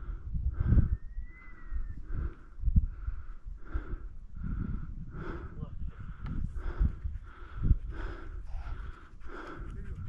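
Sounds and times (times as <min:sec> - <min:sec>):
person breathing hard: 0:00.0 - 0:01.0, 0:02.0 - 0:10.0.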